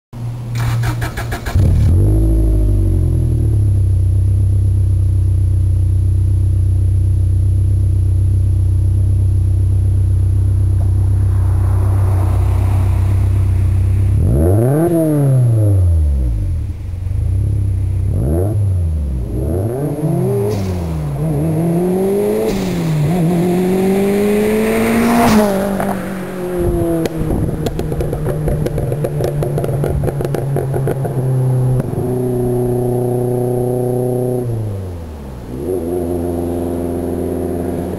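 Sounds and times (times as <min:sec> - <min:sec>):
car engine idling and revving: 0:00.2 - 0:37.9.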